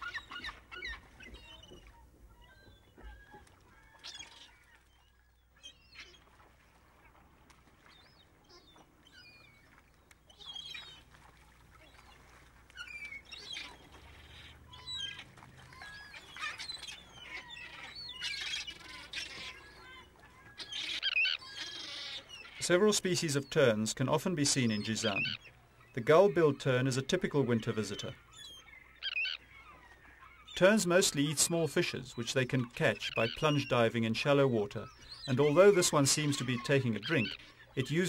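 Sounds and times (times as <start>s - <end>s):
shorebirds and gulls calling: 0.0s - 38.0s.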